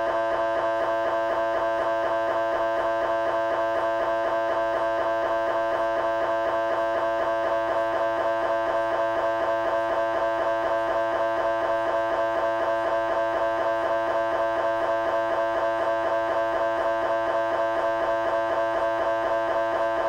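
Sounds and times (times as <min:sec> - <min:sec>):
mri scanner pulsing buzz: 0:00.0 - 0:20.0.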